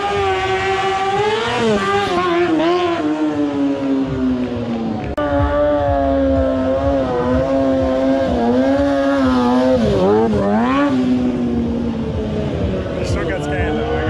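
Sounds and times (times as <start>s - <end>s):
motorcycle engine at high revs: 0.0s - 13.3s.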